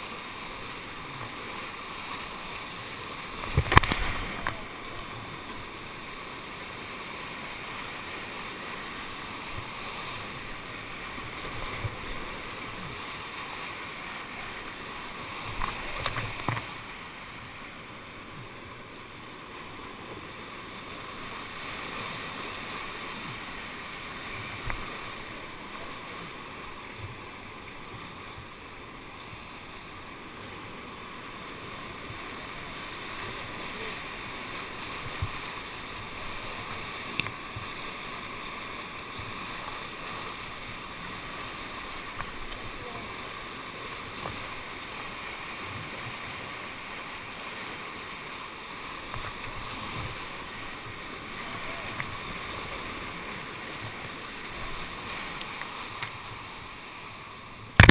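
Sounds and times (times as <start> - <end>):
rushing whitewater: 0.0 - 57.9
water splashes: 0.0 - 57.9.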